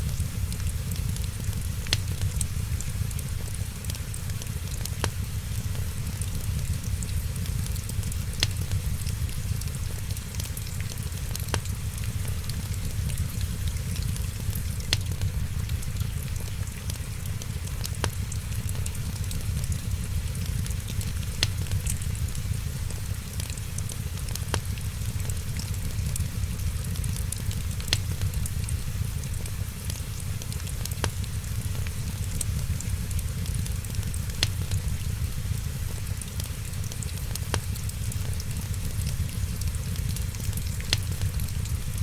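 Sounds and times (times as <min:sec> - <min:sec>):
fire popping: 0:00.0 - 0:42.0
wood fire crackling: 0:00.0 - 0:42.0.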